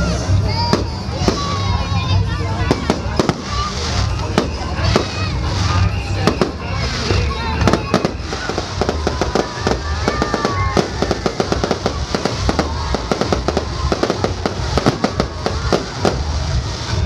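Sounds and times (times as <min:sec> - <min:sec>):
fireworks cracks and bangs: 0:00.5 - 0:17.0.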